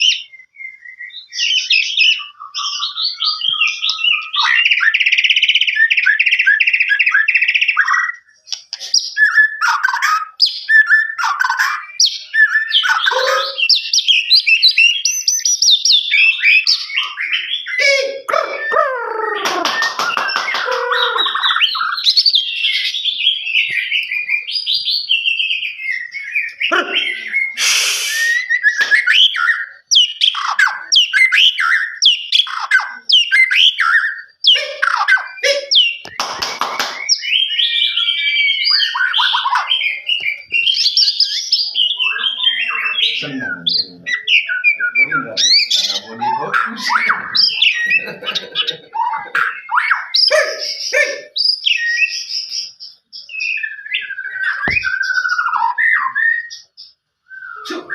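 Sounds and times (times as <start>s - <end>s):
birds chirping and singing: 0.0s - 57.9s
lower bird calls: 0.0s - 57.9s.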